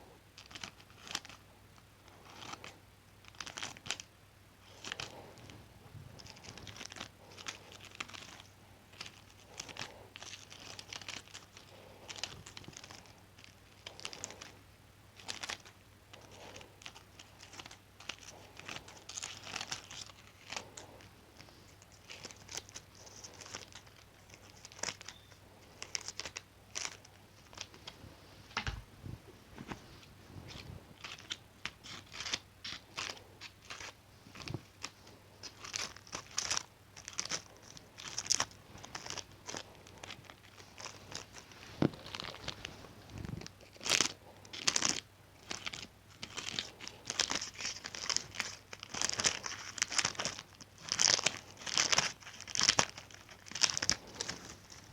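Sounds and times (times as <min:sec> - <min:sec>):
material crinkling and rustling: 0:00.0 - 0:54.9.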